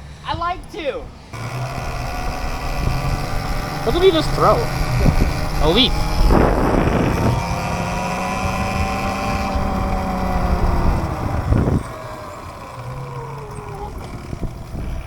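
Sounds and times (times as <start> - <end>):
wind rumbling on microphone: 0.0 - 15.0
small motorbike engine whine: 1.2 - 15.0.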